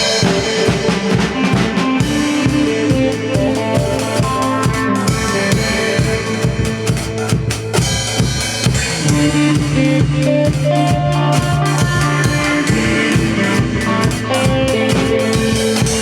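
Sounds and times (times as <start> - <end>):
drum kit beat: 0.0 - 16.0
instrumental band music: 0.0 - 16.0.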